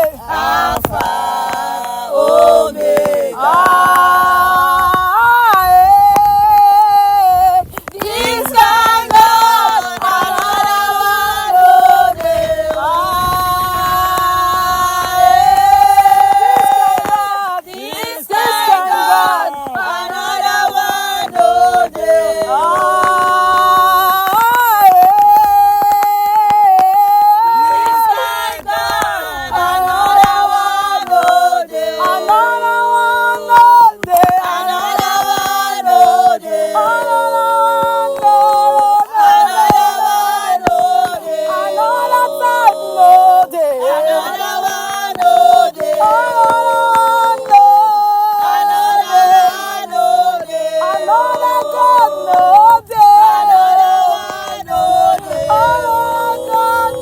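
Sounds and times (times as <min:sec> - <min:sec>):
group singing worship song: 0:00.0 - 0:57.0.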